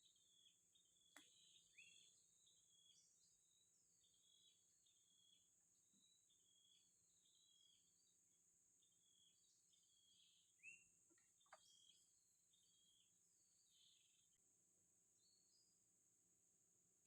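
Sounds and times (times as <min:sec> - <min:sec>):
bird chirps: 0:00.0 - 0:08.1, 0:08.8 - 0:14.4.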